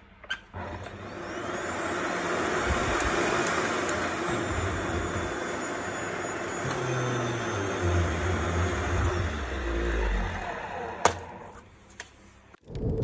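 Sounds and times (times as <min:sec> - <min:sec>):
vacuum cleaner motor humming: 0:00.6 - 0:11.7.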